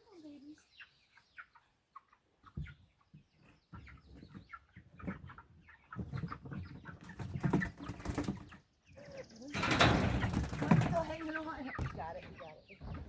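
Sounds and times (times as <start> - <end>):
chicks peeping and chirping: 0.0 - 13.0.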